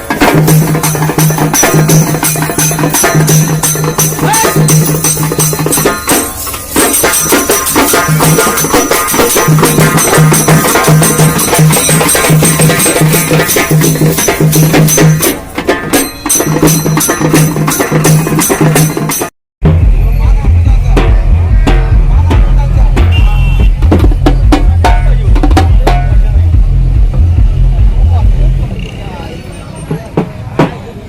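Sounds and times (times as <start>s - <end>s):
frame drums beaten with sticks: 0.0s - 28.6s, 29.9s - 30.9s.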